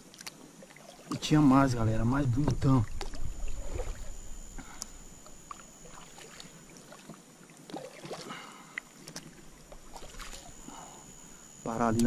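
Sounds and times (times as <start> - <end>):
water lapping on kayak: 0.0 - 11.6.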